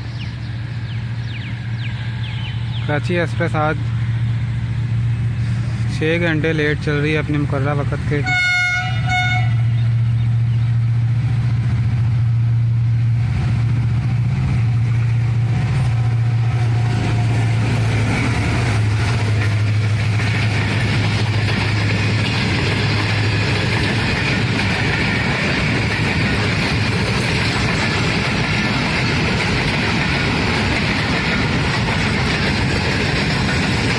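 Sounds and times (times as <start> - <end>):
locomotive engine drone: 0.0 - 33.9
train wheels rattling on rails: 0.0 - 33.9.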